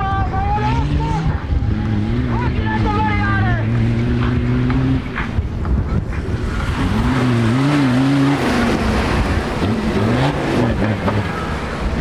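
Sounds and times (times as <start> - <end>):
race vehicle engine revving: 0.0 - 12.0
vehicle driving rumble: 0.0 - 12.0.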